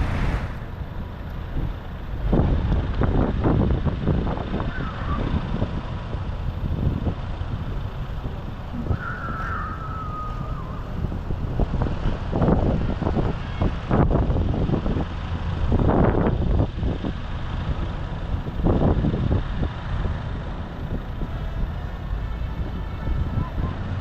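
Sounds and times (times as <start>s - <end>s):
tractor engines rumbling: 0.0s - 24.0s.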